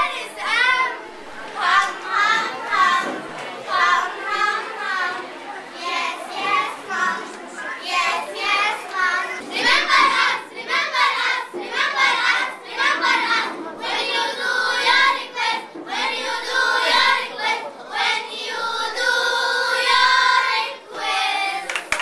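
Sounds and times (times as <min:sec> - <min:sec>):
children singing: 0:00.0 - 0:22.0.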